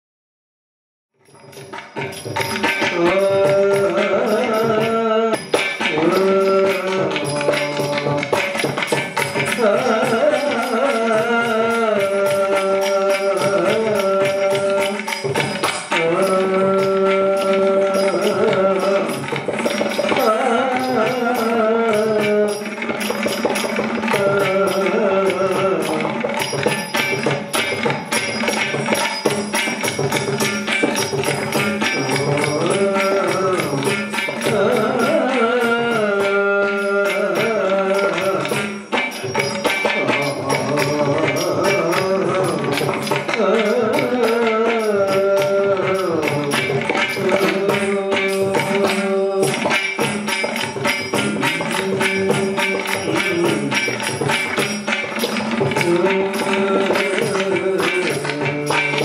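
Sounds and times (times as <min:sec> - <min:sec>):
small cymbals: 0:01.2 - 0:59.0
drum strokes: 0:01.3 - 0:59.0
person singing: 0:02.7 - 0:08.6, 0:09.3 - 0:23.4, 0:24.0 - 0:27.1, 0:31.6 - 0:59.0.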